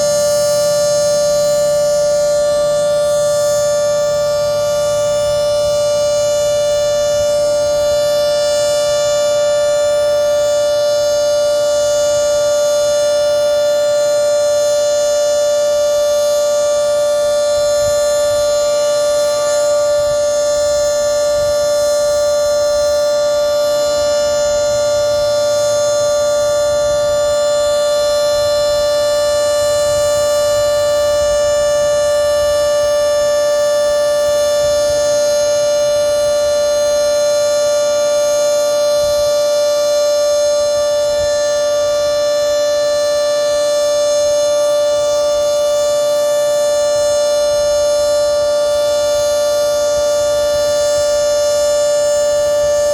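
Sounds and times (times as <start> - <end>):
two-tone warning siren: 0.0 - 52.9.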